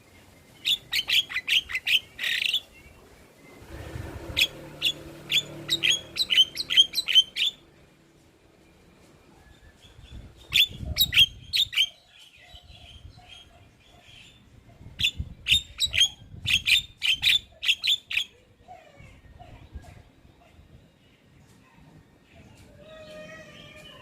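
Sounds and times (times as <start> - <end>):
soft bird chatter: 0.0 - 24.0.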